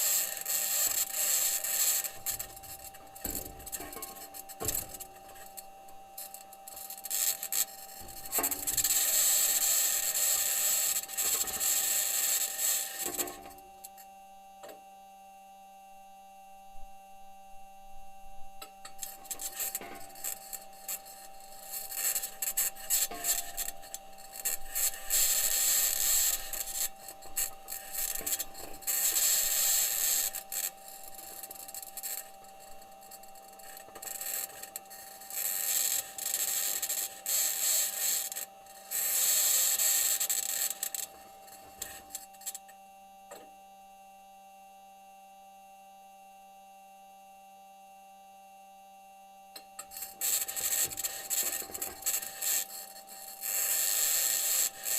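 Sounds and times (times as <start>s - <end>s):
steady electrical hum: 0.0s - 54.9s.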